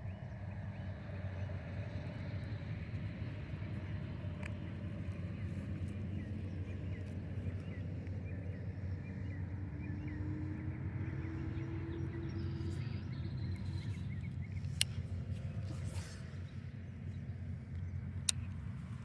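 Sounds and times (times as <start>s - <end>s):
faint hum: 0.0s - 19.0s
small birds chirping: 0.0s - 19.0s.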